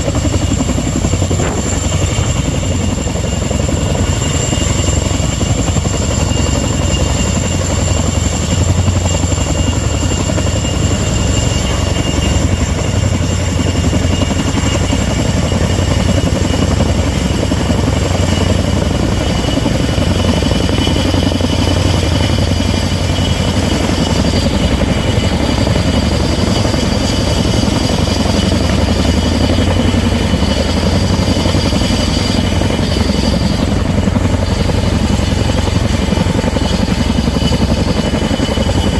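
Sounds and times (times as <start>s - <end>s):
helicopter droning: 0.0s - 38.9s.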